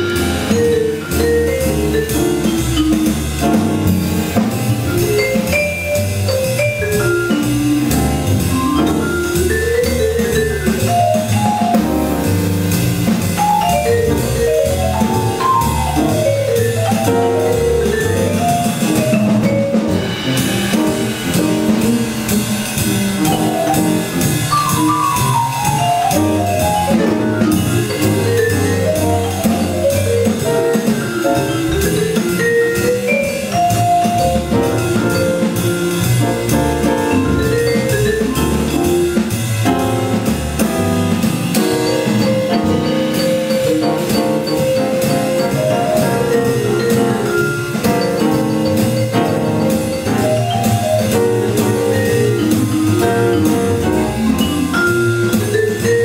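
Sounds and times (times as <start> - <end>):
double bass: 0.0 - 56.0
drum kit with cymbals: 0.0 - 56.0
vibraphone played with mallets: 0.0 - 56.0.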